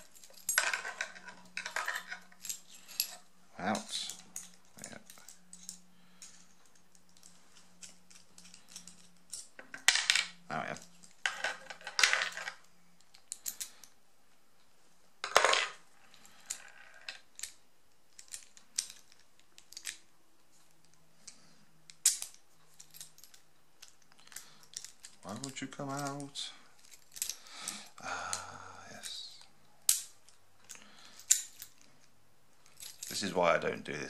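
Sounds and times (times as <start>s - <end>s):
metal parts and tools clinking: 0.0s - 14.0s, 15.2s - 34.0s.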